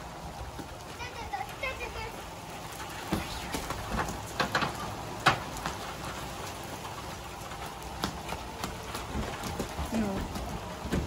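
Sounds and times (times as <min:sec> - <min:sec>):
heavy rain on concrete: 0:00.0 - 0:11.0.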